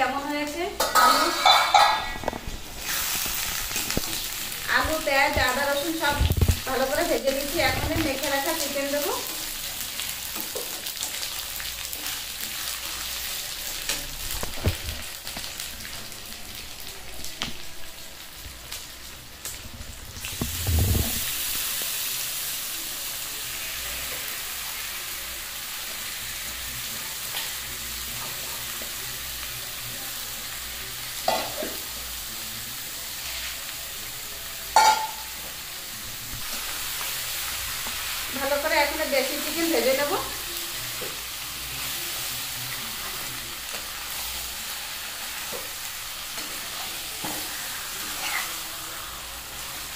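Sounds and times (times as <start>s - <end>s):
food sizzling in oil: 0.0s - 49.9s.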